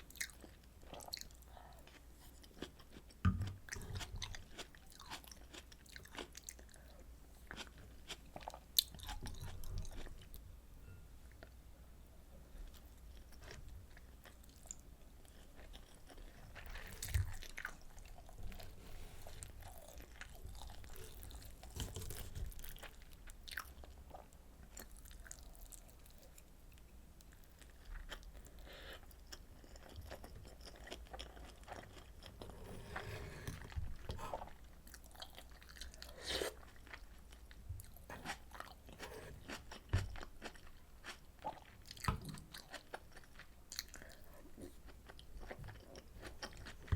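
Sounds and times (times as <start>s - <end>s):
chewing and crunching: 0.0s - 10.3s, 12.7s - 46.9s.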